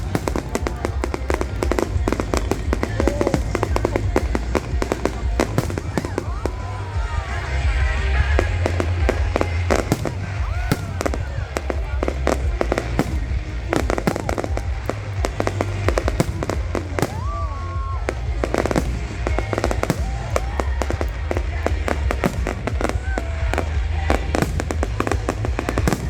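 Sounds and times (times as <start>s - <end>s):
firework whistles: 0.0s - 26.0s
fireworks crackling bursts: 0.0s - 26.0s.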